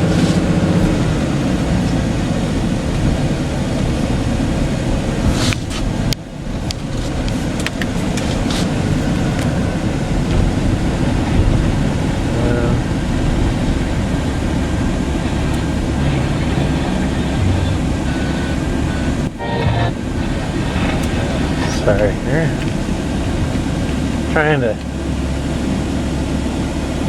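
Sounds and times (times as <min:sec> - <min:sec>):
truck road and engine rumble: 0:00.0 - 0:27.0.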